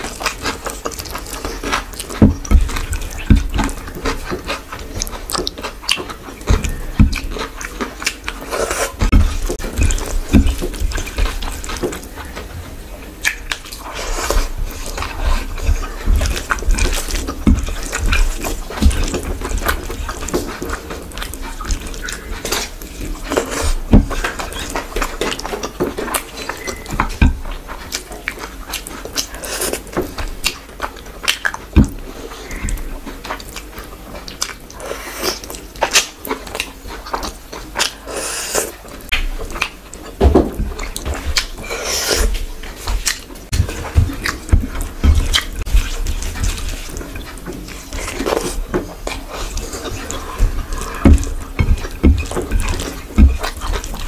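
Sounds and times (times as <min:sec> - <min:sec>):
wet chewing and lip smacking: 0:00.0 - 0:54.0.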